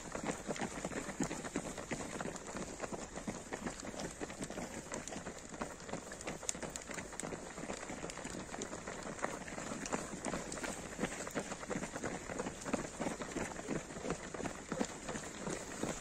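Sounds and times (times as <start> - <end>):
runners' footsteps on gravel: 0.0 - 16.0.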